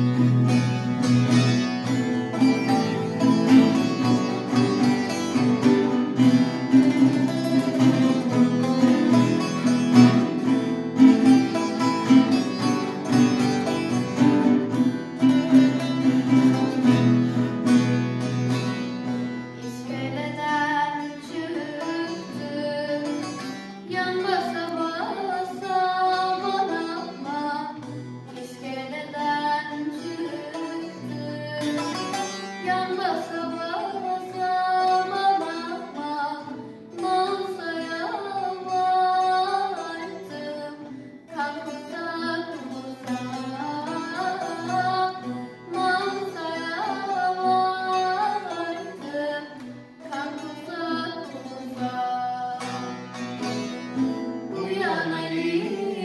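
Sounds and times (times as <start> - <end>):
acoustic guitar and lute folk song: 0.0 - 56.0.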